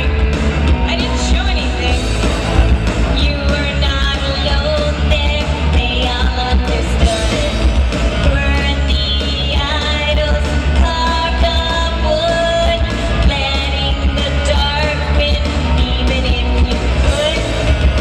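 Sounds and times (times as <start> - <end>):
rock band playing: 0.0 - 18.0
lead singer singing: 3.1 - 18.0.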